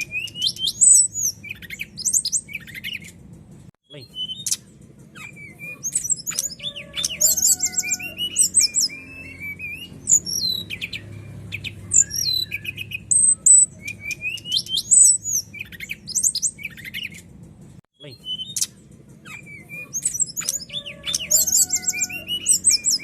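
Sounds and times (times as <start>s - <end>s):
bird singing whistles and trills: 0.0s - 3.2s, 3.9s - 17.3s, 18.0s - 23.0s.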